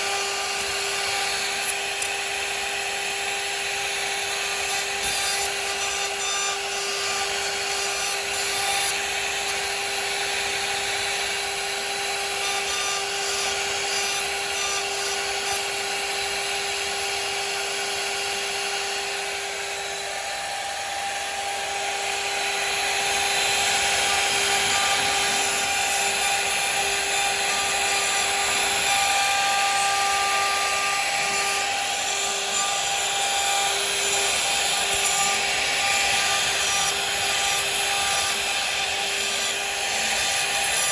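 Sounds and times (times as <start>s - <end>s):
bit cutting into wood: 0.0s - 40.9s
router spindle whine: 0.0s - 40.9s.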